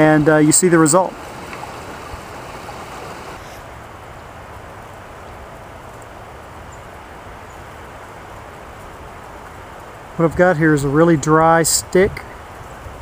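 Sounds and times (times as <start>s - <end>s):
low outdoor hiss: 0.0s - 13.0s.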